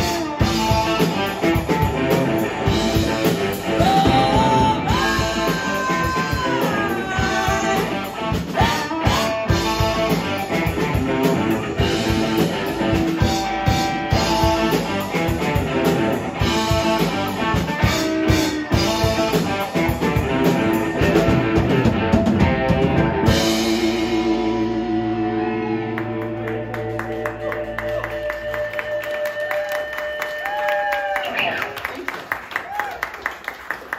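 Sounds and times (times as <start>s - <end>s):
drum kit: 0.0s - 28.9s
electric guitars with bent notes: 0.0s - 30.2s.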